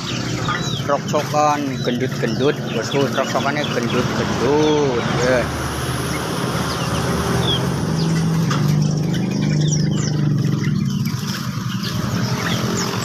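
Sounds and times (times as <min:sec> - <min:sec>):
low motor hum: 0:00.0 - 0:13.0
songbirds chirping: 0:00.0 - 0:13.0.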